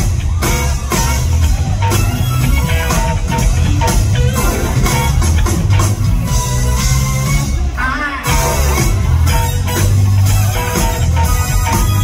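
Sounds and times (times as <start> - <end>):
live funk band playing: 0.0 - 12.0.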